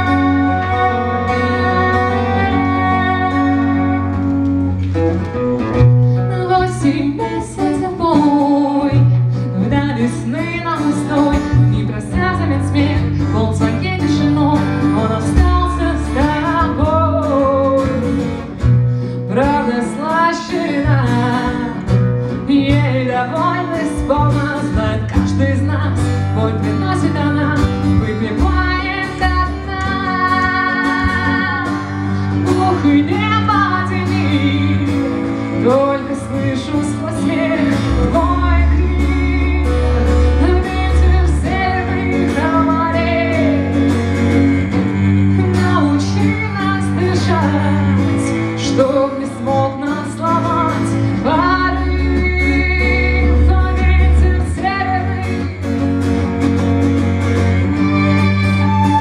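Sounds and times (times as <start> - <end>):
woman singing: 0.0 - 4.6, 5.6 - 55.9
acoustic guitar: 0.0 - 59.0
cello: 0.0 - 59.0
violin: 0.0 - 59.0.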